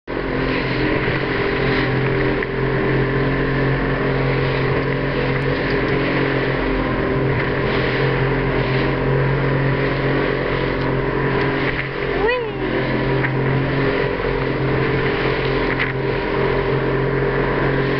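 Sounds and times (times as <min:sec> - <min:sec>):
boat engine running: 0:00.0 - 0:17.9
water spray over hull: 0:00.1 - 0:17.9.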